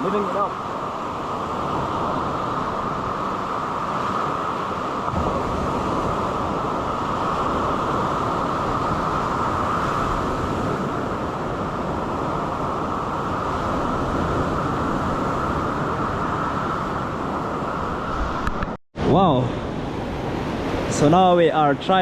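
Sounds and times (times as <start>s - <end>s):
sea surf rushing: 0.0s - 22.0s
wind on microphone: 0.0s - 22.0s.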